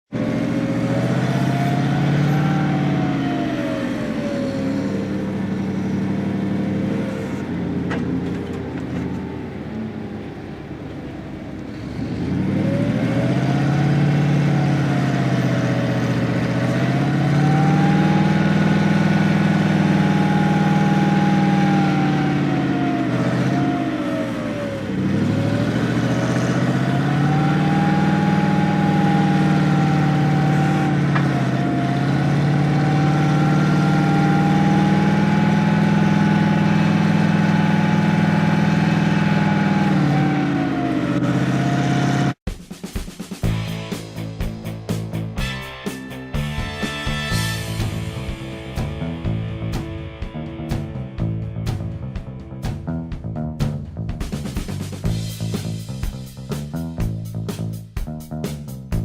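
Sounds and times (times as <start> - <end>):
vehicle engine revving: 0.0 - 42.5, 43.4 - 59.0.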